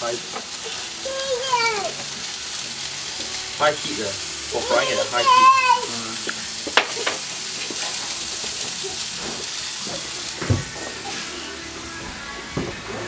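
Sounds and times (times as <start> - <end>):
food sizzling on a barbecue: 0.0 - 13.0.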